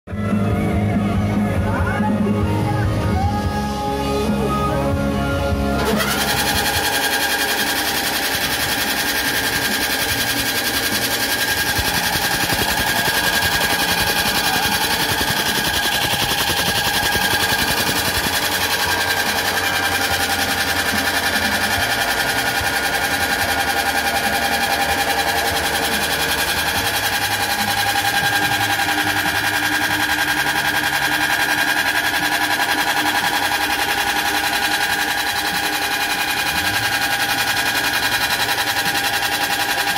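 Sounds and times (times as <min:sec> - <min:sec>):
motor whine: 0:00.1 - 0:39.9.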